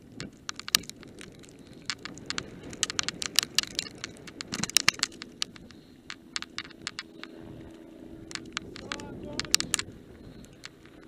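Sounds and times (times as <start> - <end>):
bike clicks and knocks: 0.0 - 7.4, 8.2 - 11.0
tyres rumbling on gravel: 0.0 - 11.0
wind: 0.0 - 11.0.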